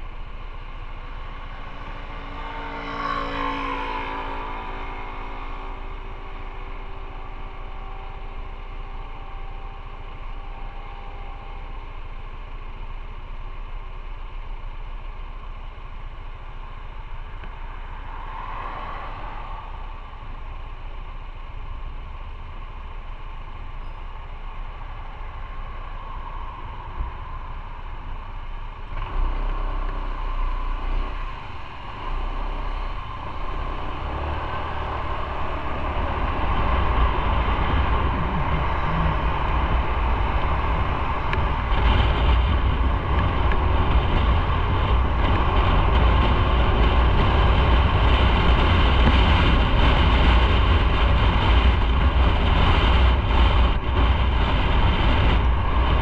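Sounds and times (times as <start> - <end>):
motorcycle engine running: 0.0 - 18.1, 19.1 - 56.0
road and wind noise: 0.0 - 56.0.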